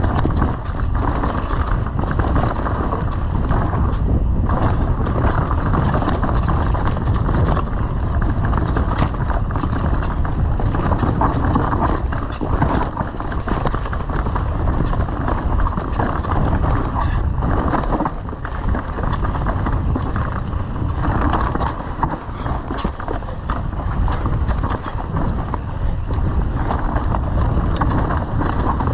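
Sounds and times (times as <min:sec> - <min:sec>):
bike rattling clicks: 0:00.0 - 0:28.9
tyres rumbling on dirt: 0:00.0 - 0:28.9
wind on microphone: 0:00.0 - 0:28.9.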